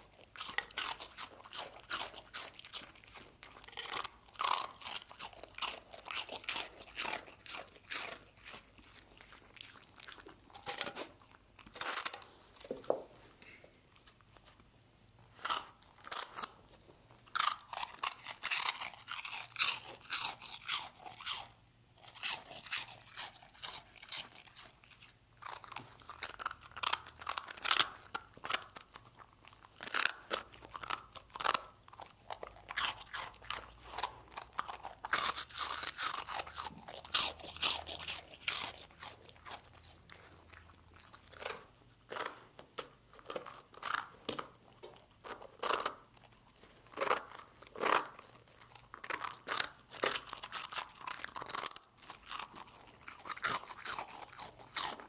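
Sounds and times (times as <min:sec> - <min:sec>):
dog crunching hard food: 0:00.0 - 0:13.2, 0:15.2 - 0:55.0.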